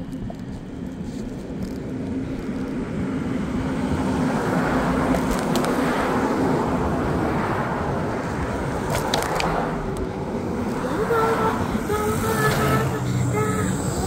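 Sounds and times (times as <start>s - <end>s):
car traffic: 0.0s - 14.0s
wind rush and road noise: 0.0s - 14.0s.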